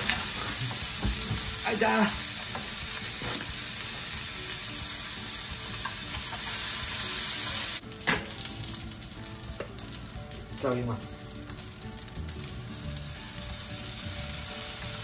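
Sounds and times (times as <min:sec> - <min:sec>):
noodles sizzling in frying pan: 0:00.0 - 0:15.0.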